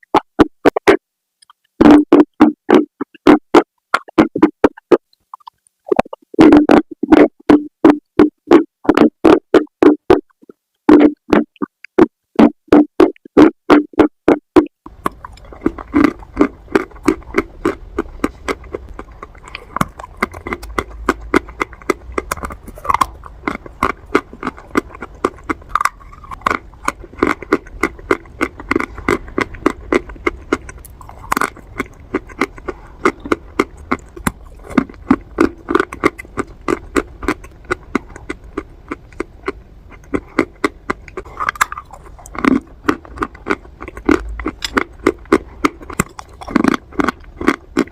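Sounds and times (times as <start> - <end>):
chewing crunchy clay pieces: 0.0 - 47.9.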